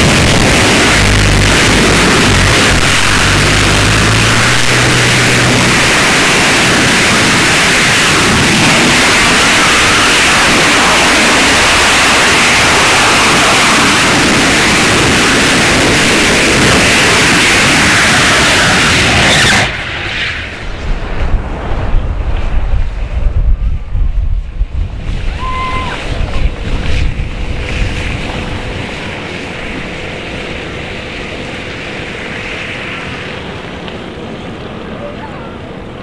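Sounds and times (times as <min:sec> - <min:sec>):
gusty rumble: 0:00.0 - 0:36.0
rocket engine roar: 0:00.0 - 0:36.0.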